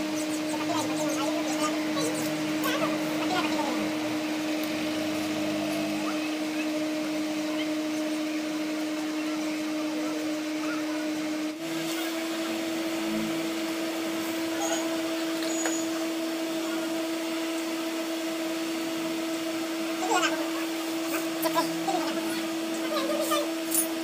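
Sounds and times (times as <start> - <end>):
electric motor hum: 0.0 - 24.0.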